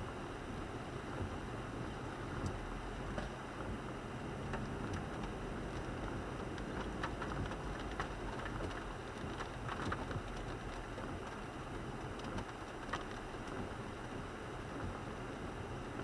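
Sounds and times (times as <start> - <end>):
rain on car windshield and roof: 0.1 - 16.0.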